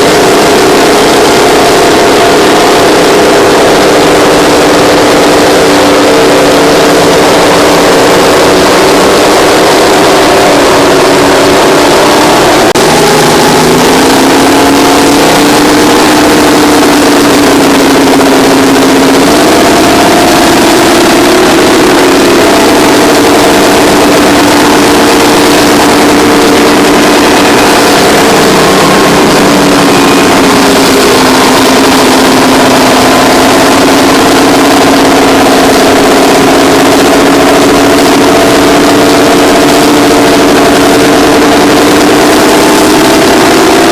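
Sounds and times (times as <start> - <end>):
bulldozer diesel engines running: 0.0 - 43.9.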